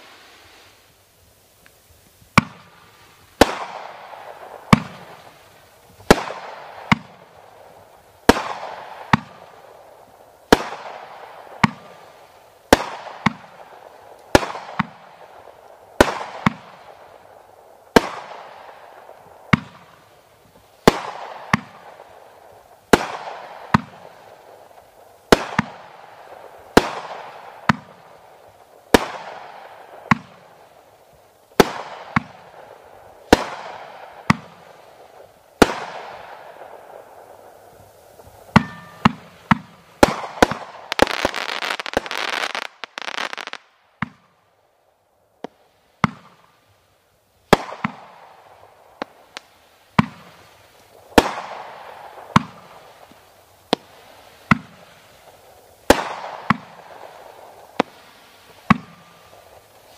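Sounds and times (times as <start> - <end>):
firework reports: 0.0 - 44.4, 47.4 - 59.9.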